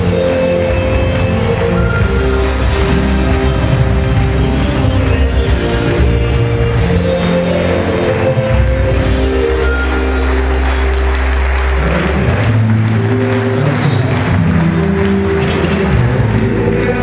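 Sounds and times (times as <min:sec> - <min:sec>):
crowd clapping: 0:00.0 - 0:17.0
music with deep bass: 0:00.0 - 0:17.0.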